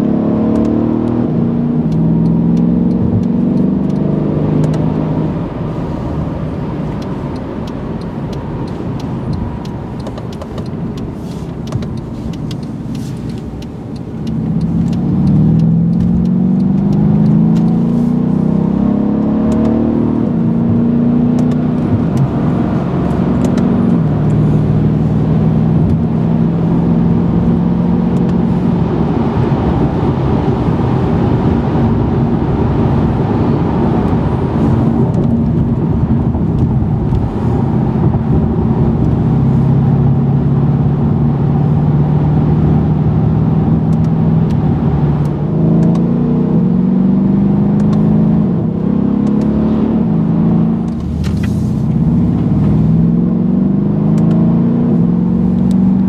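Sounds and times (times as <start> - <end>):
car engine accelerating: 0.0 - 56.0
tyre and road noise: 0.0 - 56.0.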